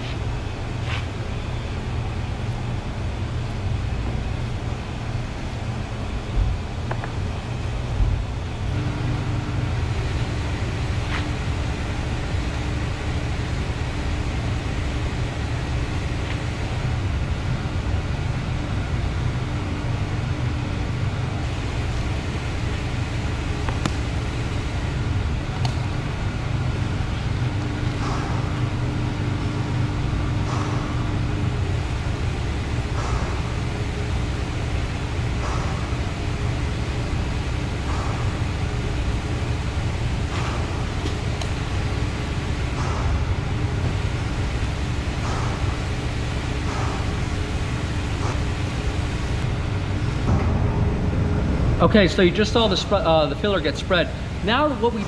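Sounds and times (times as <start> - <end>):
low mechanical rumble: 0.0 - 55.0
steady hum: 0.0 - 55.0.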